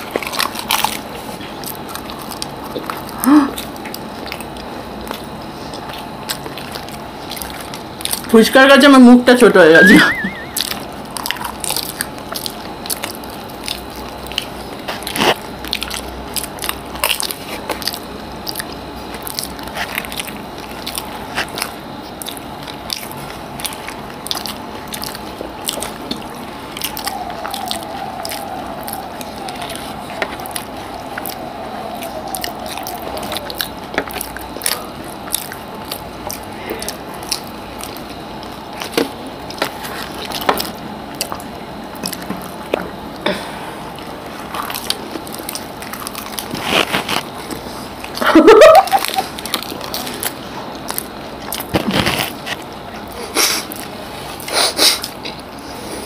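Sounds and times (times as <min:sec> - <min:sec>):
crunchy food being chewed: 0:00.0 - 0:56.0.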